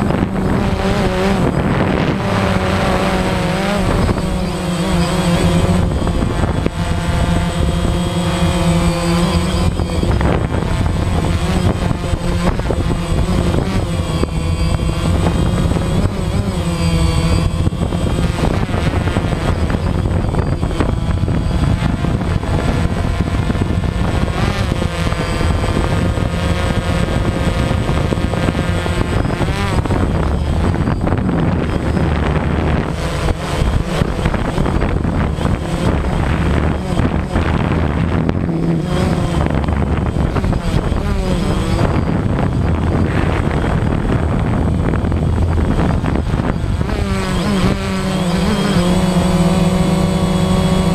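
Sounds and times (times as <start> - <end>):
drone propellers whirring: 0.0 - 50.9.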